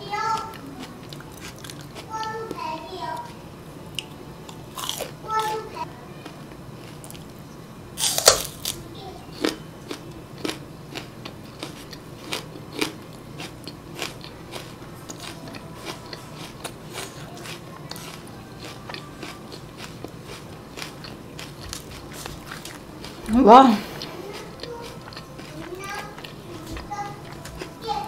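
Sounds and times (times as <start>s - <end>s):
crunchy chewing: 0.1s - 28.0s.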